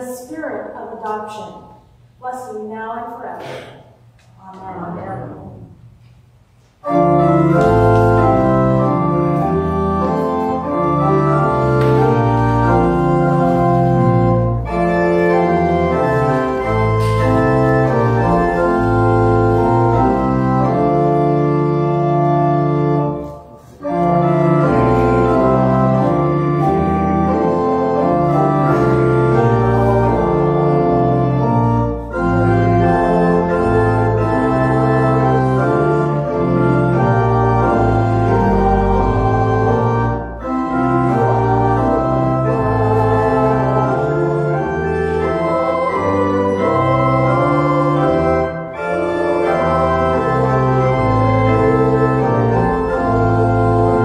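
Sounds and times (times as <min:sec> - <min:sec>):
church organ playing a hymn: 0:06.4 - 0:54.0.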